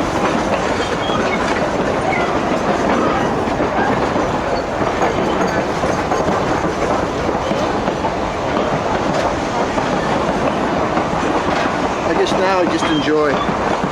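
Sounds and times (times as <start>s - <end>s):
train wheels rumbling and rattling: 0.0s - 13.9s.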